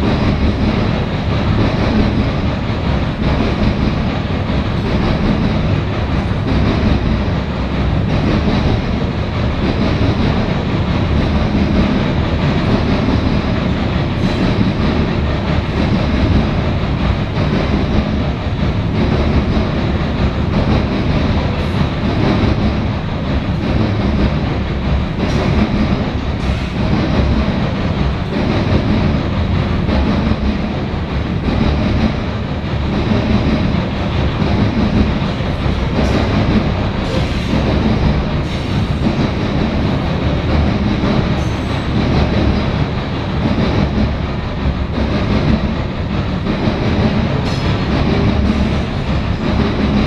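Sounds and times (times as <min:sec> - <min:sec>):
steel wheels rumbling on rail: 0:00.0 - 0:50.0.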